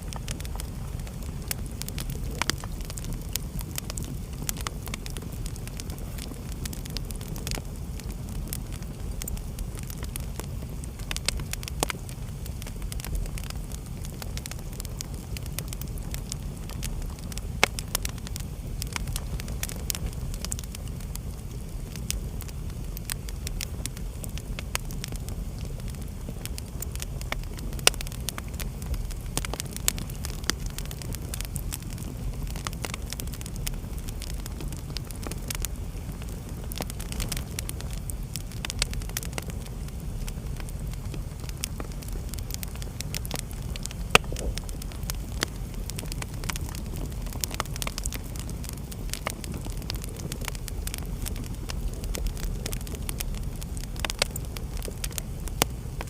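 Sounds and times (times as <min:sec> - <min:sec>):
burning logs popping: 0:00.0 - 0:56.0
fire crackling: 0:00.0 - 0:56.0
fire flames rumbling: 0:00.0 - 0:56.0.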